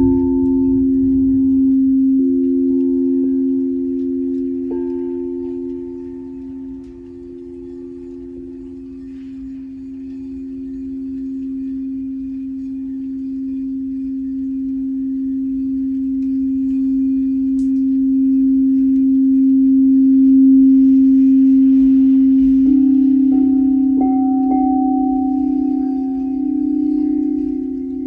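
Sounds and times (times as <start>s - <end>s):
singing bowl sustained tone: 0.0s - 28.0s.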